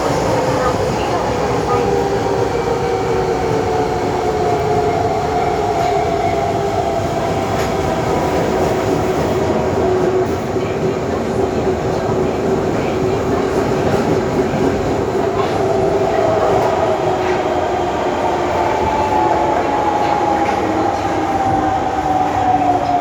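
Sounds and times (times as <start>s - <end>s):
rail noise: 0.0s - 23.0s
subway motor whine: 0.0s - 23.0s.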